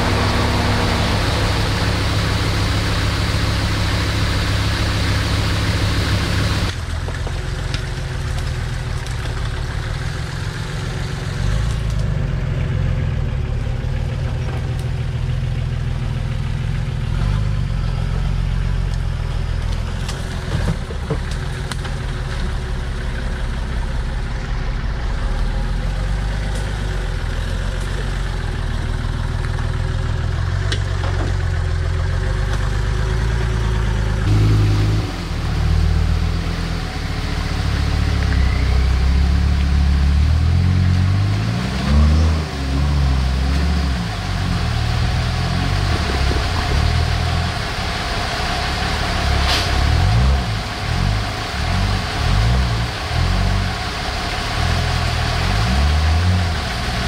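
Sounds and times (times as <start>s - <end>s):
engine running and revving: 0.0s - 57.0s.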